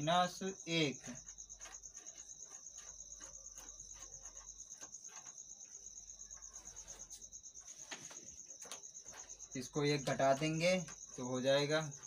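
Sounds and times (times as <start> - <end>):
cricket trilling: 0.0 - 12.0
marker writing on whiteboard: 0.9 - 12.0.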